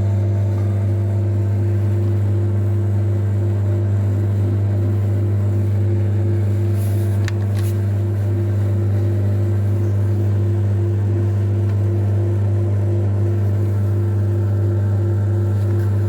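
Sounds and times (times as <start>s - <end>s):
metal lathe motor hum: 0.0s - 16.0s.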